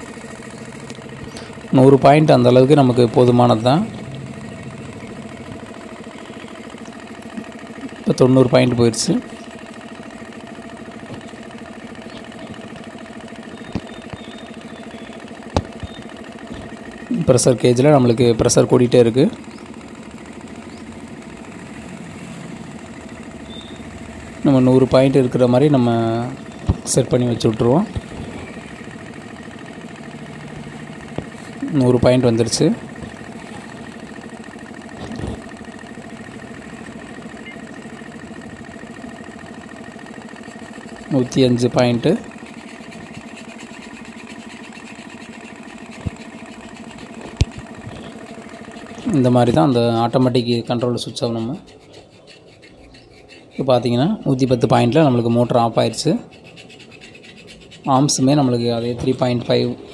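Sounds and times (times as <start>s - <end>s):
air compressor running: 0.0s - 59.9s.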